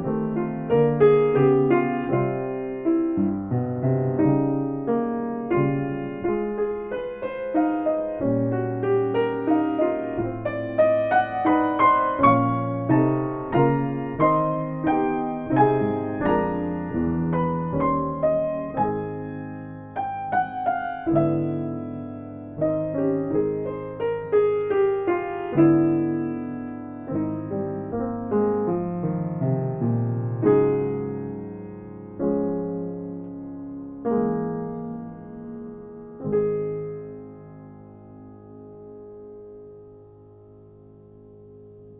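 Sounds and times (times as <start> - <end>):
slow gentle piano piece: 0.0 - 41.9.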